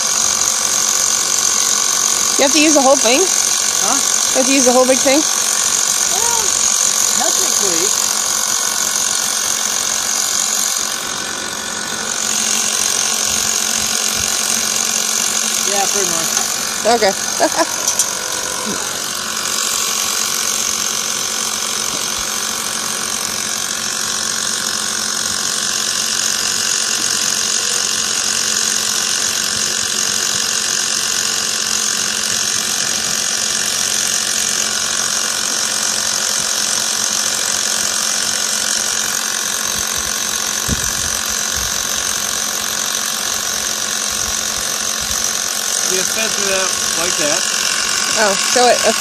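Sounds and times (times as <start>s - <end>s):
air compressor running: 0.0s - 49.0s.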